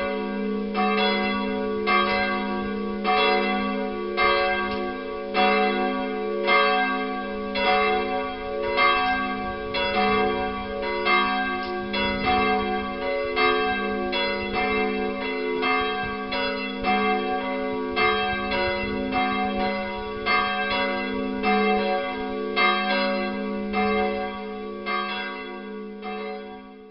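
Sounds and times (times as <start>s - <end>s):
church bells ringing: 0.0s - 26.9s.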